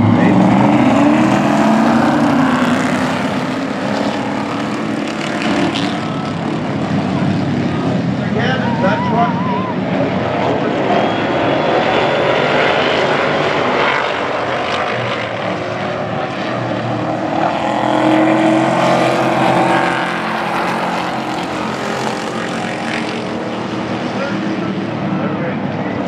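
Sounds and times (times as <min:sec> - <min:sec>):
race truck engines: 0:00.0 - 0:26.0.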